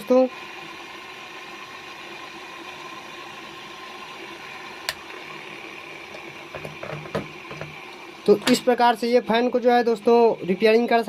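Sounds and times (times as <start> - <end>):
ceiling fan whirring: 0.0 - 11.0.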